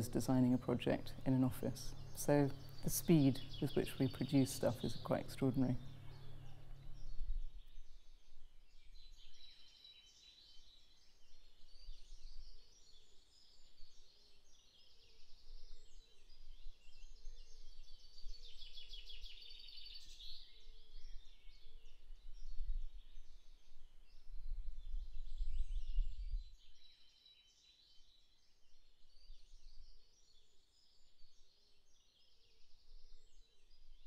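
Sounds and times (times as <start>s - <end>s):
small birds chirping and trilling: 0.0s - 34.0s.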